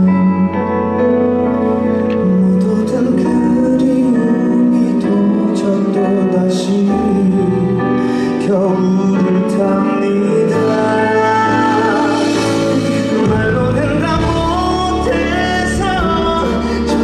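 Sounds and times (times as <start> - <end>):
instrumental accompaniment: 0.0 - 17.0
man singing a ballad: 0.0 - 17.0.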